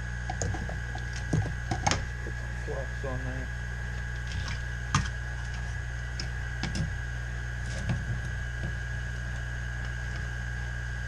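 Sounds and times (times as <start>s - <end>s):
electrical hum with high whine: 0.0s - 11.0s.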